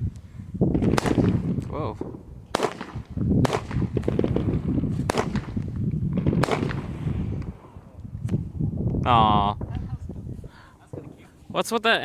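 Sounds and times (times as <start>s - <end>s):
fireworks bangs: 0.6s - 8.6s, 9.4s - 11.9s.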